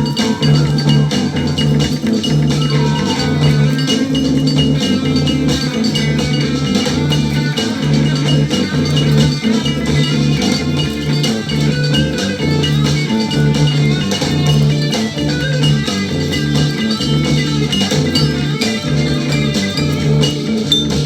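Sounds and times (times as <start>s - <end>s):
drum kit: 0.0s - 21.0s
psychedelic rock guitar: 0.0s - 21.0s
repeating bass line: 0.0s - 21.0s.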